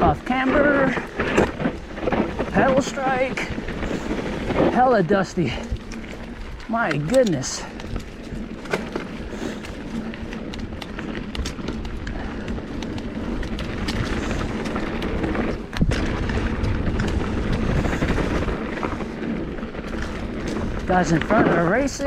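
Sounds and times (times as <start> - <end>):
bike clicks and rattles: 0.0 - 22.0
tyres rumbling over dirt: 0.0 - 22.0
wind on microphone: 0.0 - 22.0.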